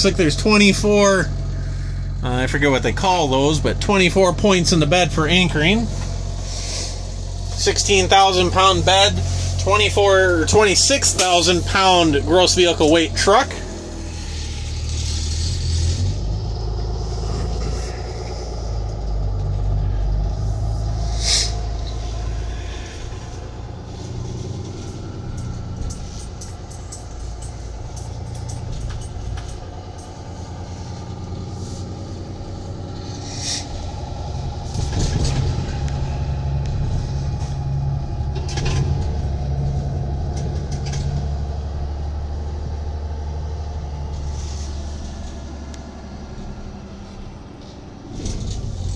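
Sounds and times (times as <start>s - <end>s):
diesel truck engine pulling: 0.0s - 48.9s.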